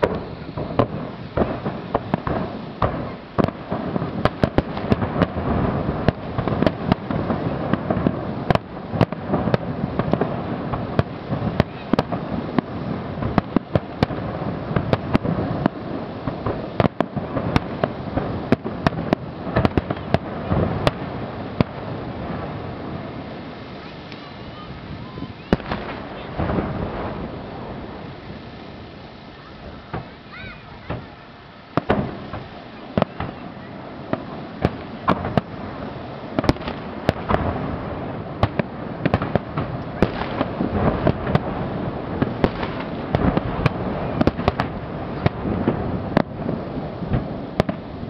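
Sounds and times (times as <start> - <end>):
fireworks shells bursting: 0.0 - 22.8, 23.6 - 48.0
overlapping booms and crackle: 0.0 - 48.0.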